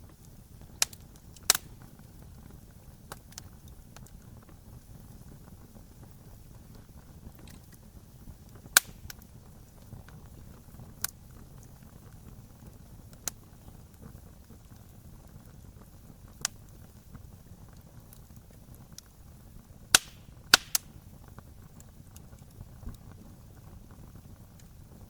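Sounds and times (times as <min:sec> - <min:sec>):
burning wood crackling pops: 0:00.0 - 0:25.0
campfire rumble: 0:00.0 - 0:25.0.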